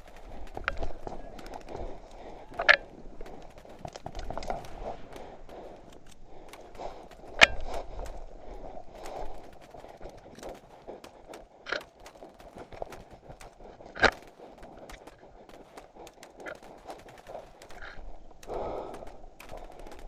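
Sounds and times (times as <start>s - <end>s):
footsteps: 0.0s - 20.0s
rustling: 0.0s - 20.0s
small clicks: 0.0s - 20.0s.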